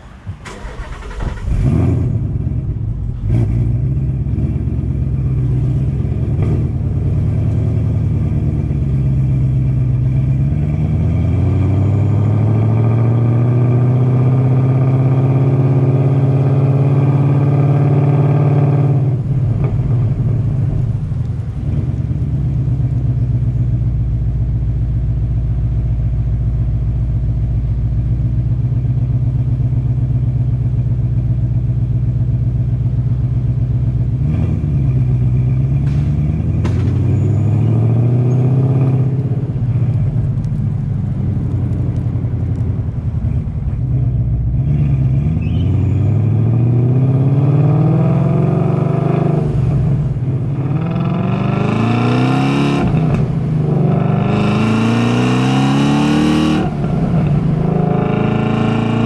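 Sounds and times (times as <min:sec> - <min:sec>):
car engine revving: 0:00.0 - 0:23.6, 0:32.8 - 0:59.0.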